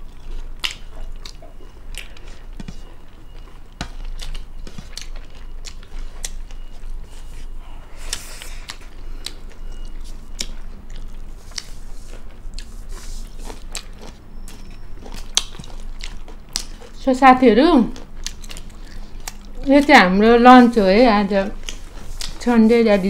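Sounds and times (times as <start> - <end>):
chewing and biting: 0.0 - 17.0, 17.9 - 19.9, 21.4 - 22.5.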